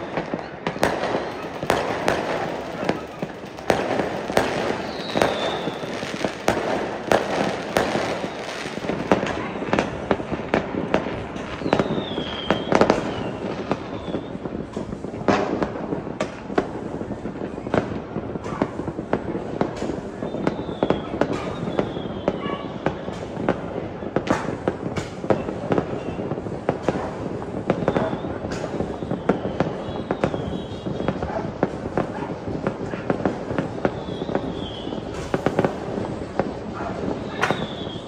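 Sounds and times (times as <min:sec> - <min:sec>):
fireworks bangs and crackling: 0:00.0 - 0:38.0
fireworks falling whistles: 0:00.0 - 0:38.0.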